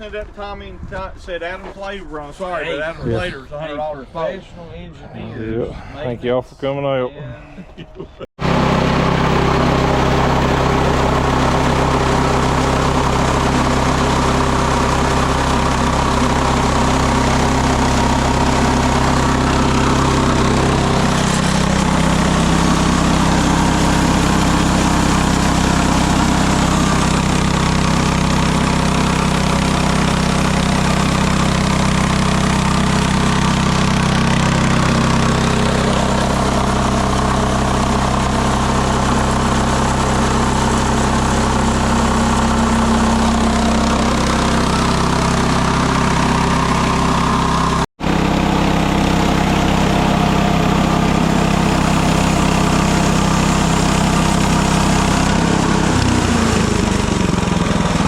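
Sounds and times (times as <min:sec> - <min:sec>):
sawmill engine running: 0:08.4 - 0:58.0.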